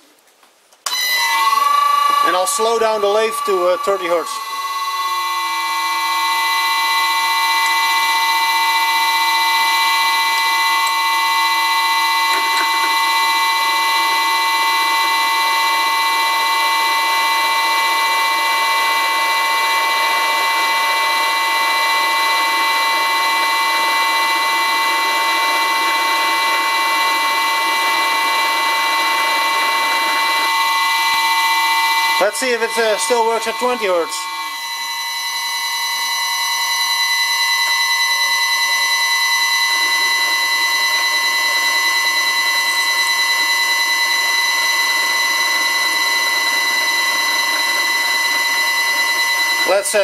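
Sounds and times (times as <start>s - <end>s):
drill cutting metal workpiece: 0.9s - 50.0s
lathe motor whine: 0.9s - 50.0s.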